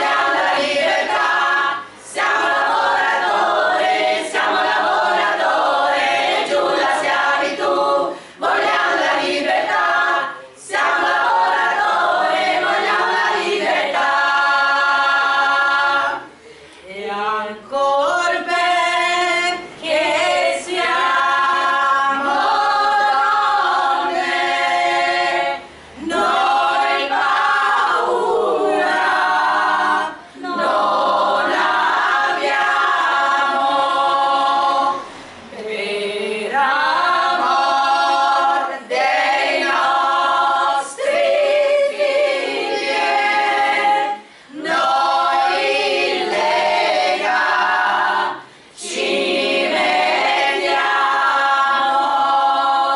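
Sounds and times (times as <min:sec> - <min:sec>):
women's choir singing a cappella: 0:00.0 - 0:52.9.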